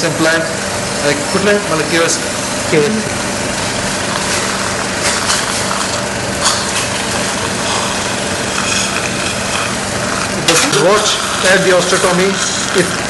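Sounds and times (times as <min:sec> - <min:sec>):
dental equipment hum and hiss: 0:00.0 - 0:13.0.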